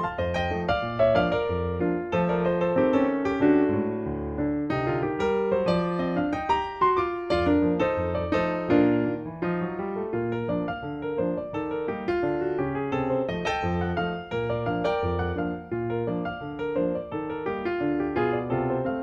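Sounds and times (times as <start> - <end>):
piano playing run of notes: 0.0 - 19.0.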